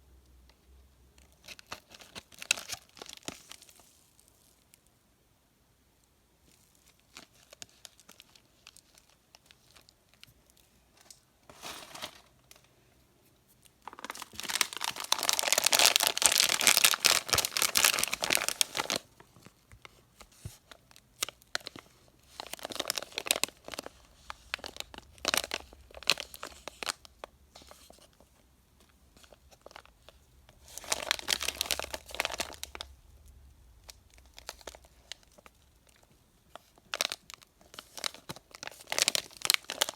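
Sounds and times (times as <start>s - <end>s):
candy wrappers crinkling and tearing: 1.2s - 4.7s, 6.5s - 12.6s, 13.6s - 19.9s, 20.6s - 28.2s, 29.1s - 39.9s.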